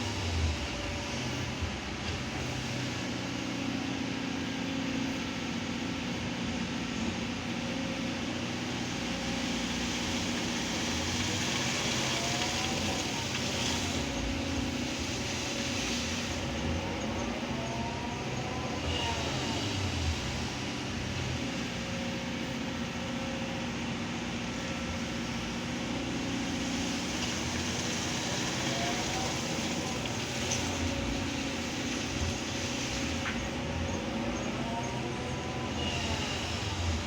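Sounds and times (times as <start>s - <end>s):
excavator diesel engine under load: 0.0s - 37.0s
high machine whine: 0.0s - 37.0s.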